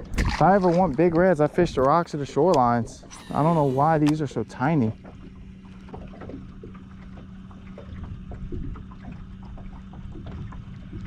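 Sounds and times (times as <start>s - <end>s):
steady low hum: 0.0s - 11.0s
water lapping around a boat: 0.0s - 11.0s.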